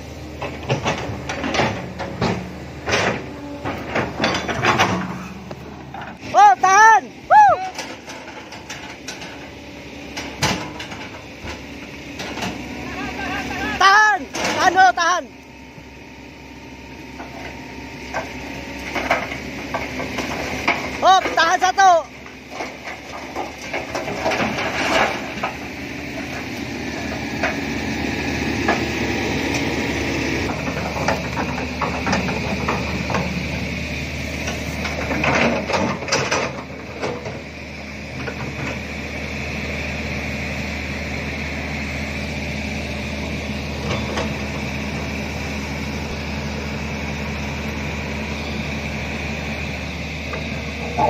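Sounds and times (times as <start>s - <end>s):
excavator diesel engines running: 0.0s - 51.0s.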